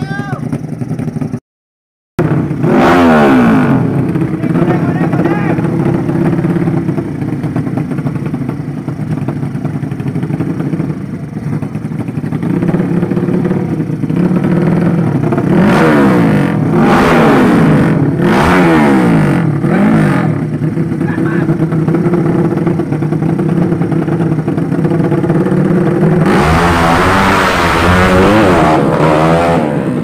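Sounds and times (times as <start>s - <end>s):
motorcycle engine revving: 0.0s - 1.4s, 2.2s - 30.0s.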